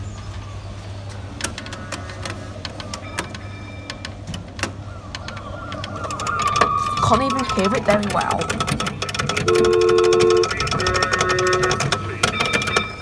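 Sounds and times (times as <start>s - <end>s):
mechanism clicks and knocks: 1.4s - 13.0s.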